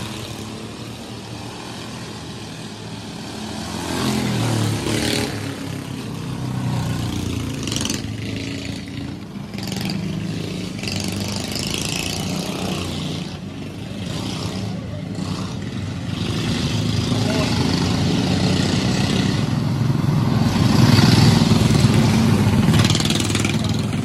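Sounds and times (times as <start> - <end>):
race kart engines passing: 0.0 - 24.0.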